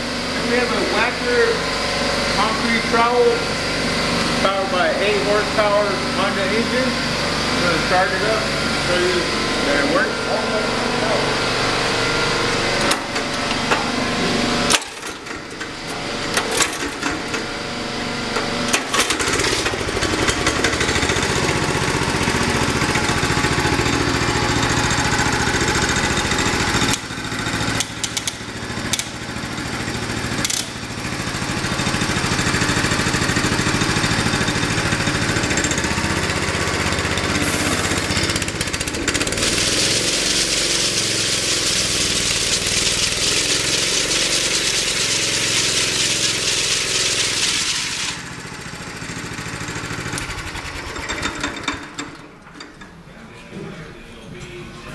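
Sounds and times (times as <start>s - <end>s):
power trowel engine running: 0.0s - 53.0s.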